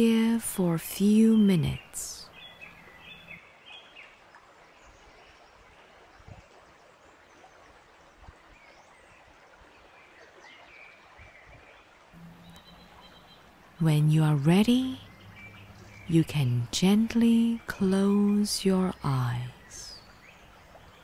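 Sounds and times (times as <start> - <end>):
soft steady hiss: 0.0 - 21.0.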